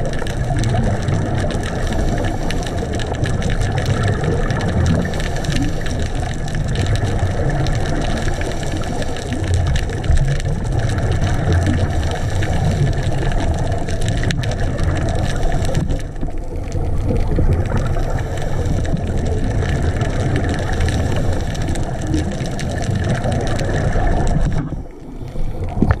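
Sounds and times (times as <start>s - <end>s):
faint crackling ticks: 0.0s - 26.0s
muffled underwater rumble: 0.0s - 26.0s.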